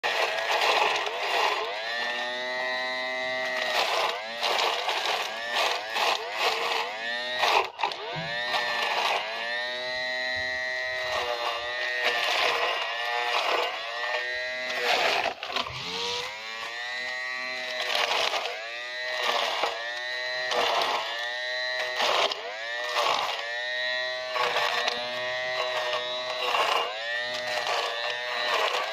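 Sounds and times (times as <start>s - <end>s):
small electric motor whining: 0.0s - 28.9s.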